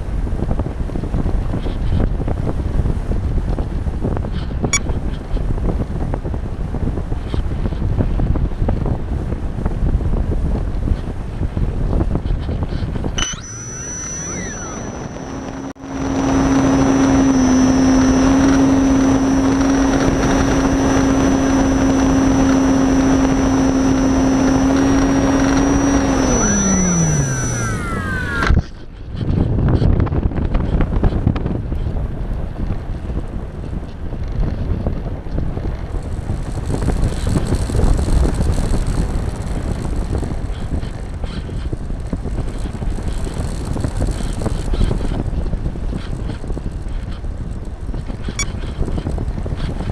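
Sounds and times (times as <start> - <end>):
airflow buffeting microphone: 0.0 - 49.9
model glider motor and propeller: 0.0 - 49.9.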